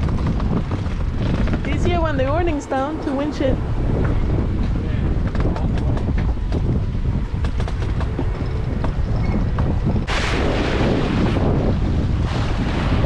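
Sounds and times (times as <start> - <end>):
rushing wind and water: 0.0 - 13.0
wind buffeting microphone: 0.0 - 13.0.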